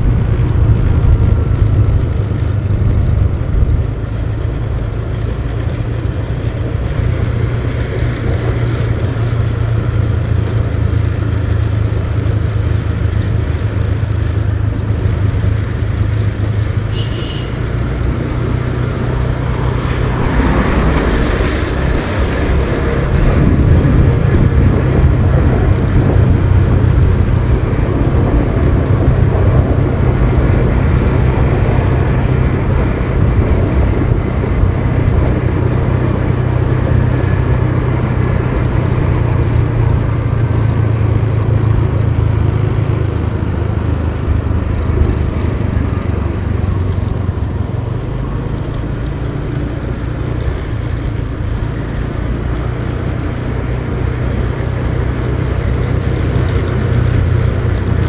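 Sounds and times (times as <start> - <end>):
wind rumble on microphone: 0.0 - 17.3, 18.0 - 58.0
motorbike engine running: 0.0 - 58.0.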